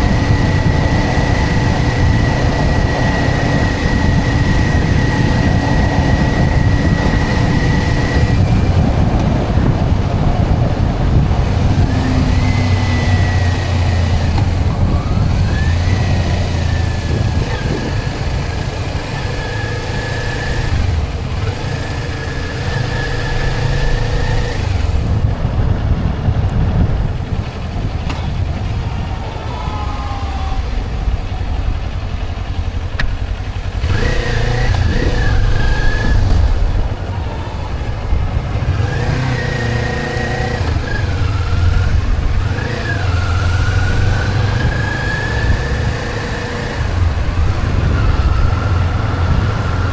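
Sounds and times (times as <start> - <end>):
motorcycle engine running: 0.0 - 49.9
road noise: 0.0 - 49.9
wind noise: 0.0 - 49.9.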